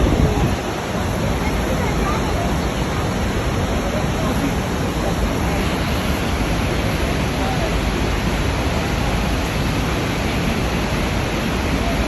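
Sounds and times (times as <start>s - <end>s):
faint voices: 0.0s - 12.0s
waterfall roaring: 0.0s - 12.0s.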